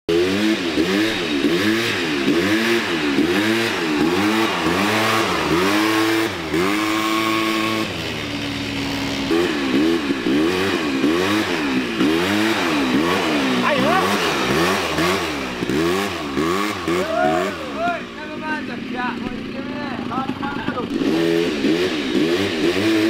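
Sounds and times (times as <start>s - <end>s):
quad bike engine revving: 0.1s - 23.0s.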